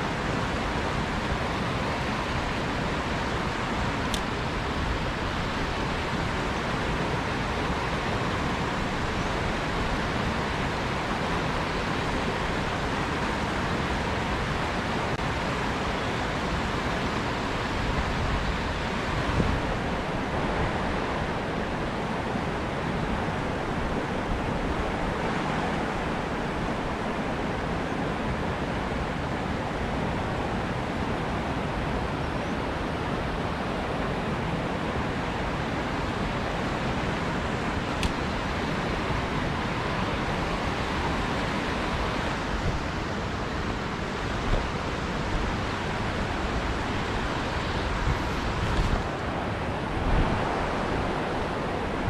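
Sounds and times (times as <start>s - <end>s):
river water rushing over rocks: 0.0s - 52.0s.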